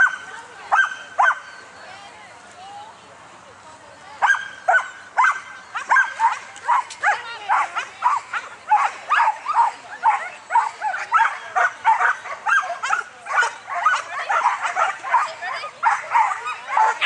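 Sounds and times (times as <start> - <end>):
dogs barking excitedly: 0.0 - 1.6, 4.2 - 17.0.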